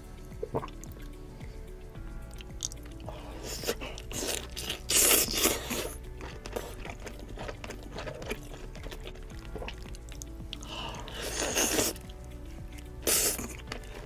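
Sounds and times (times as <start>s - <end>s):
background music: 0.0s - 14.0s
close chewing mouth sounds: 2.2s - 14.0s.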